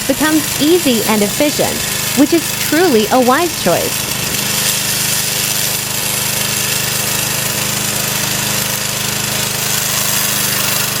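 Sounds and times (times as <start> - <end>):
mower engine chugging: 0.0 - 11.0.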